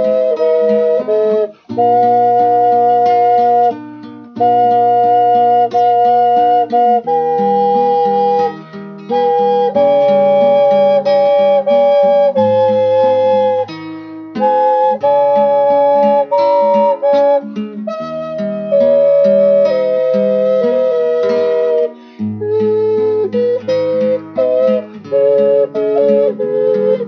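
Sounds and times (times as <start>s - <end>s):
double ocarina melody in harmony: 0.0s - 27.0s
plucked string accompaniment: 0.0s - 27.0s.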